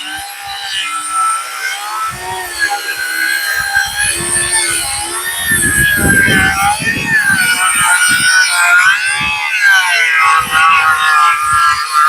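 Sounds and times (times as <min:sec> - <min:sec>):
sawmill cutting log: 0:00.0 - 0:12.0.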